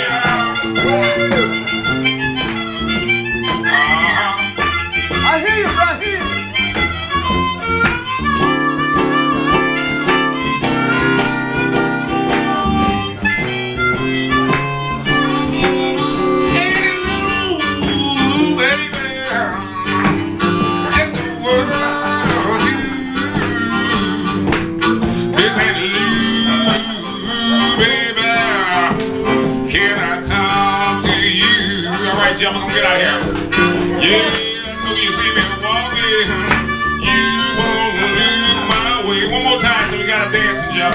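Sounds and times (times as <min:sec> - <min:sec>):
blues harmonica: 0:00.0 - 0:40.9
strummed acoustic guitar: 0:00.0 - 0:40.9.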